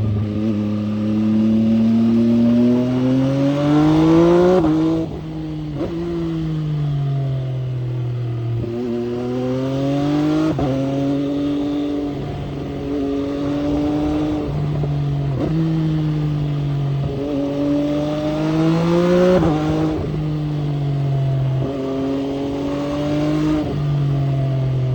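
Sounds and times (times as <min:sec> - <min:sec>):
motorcycle engine revving through gears: 0:00.0 - 0:24.9.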